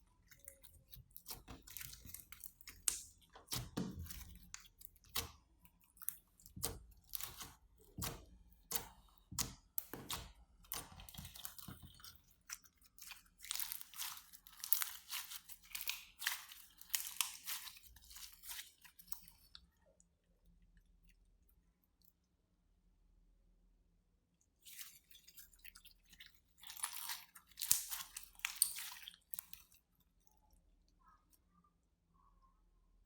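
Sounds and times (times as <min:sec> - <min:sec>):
slime squishing: 0:00.0 - 0:20.2, 0:24.6 - 0:31.5.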